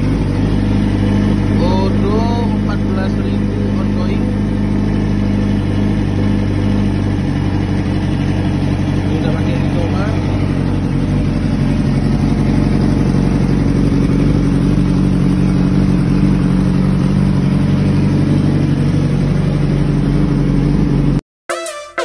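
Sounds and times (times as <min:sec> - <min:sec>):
motorcycle engine idling: 0:00.0 - 0:21.2.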